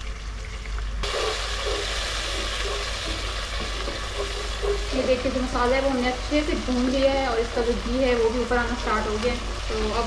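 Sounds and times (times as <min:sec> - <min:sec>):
masala sizzling in a pan: 0:00.0 - 0:10.0.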